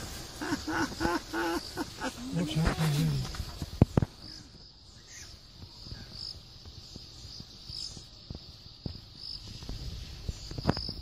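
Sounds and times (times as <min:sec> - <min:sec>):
insect chirps: 0:00.0 - 0:11.0
insects trilling: 0:00.0 - 0:11.0.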